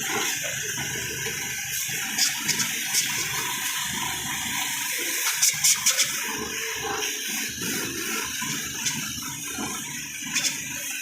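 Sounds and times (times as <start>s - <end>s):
water spraying onto a truck: 0.0s - 11.0s.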